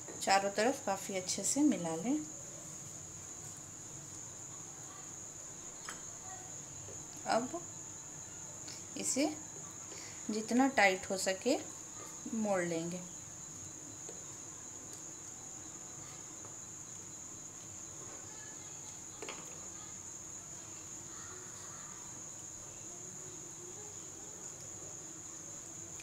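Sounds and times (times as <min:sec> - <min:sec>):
high-pitched insect trill: 0:00.0 - 0:26.0.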